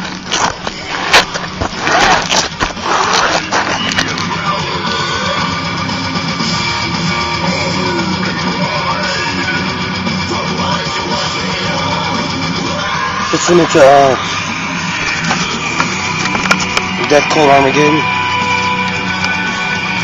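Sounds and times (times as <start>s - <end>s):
heavy metal with distorted guitar: 3.4s - 20.0s.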